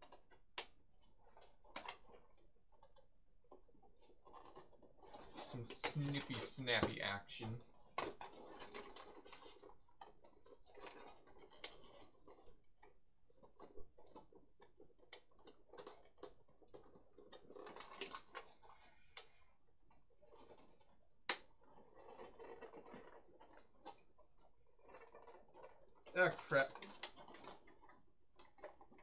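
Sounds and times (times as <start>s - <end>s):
plastic parts clicking and rattling: 0.0s - 29.0s.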